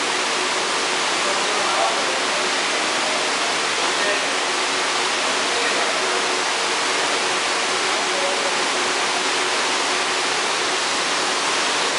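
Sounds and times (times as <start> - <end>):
rushing water: 0.0 - 11.9.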